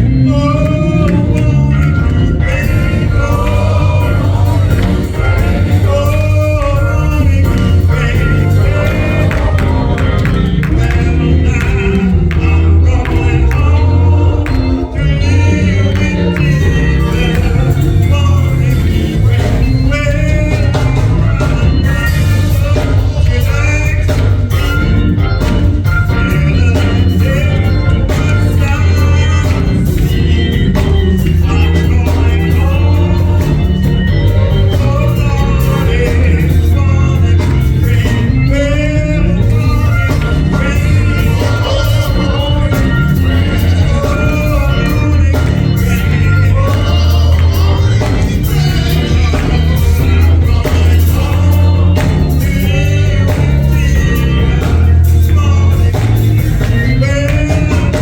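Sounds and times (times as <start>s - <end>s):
band with steady bass: 0.0s - 58.0s
group singing gospel song: 0.0s - 58.0s.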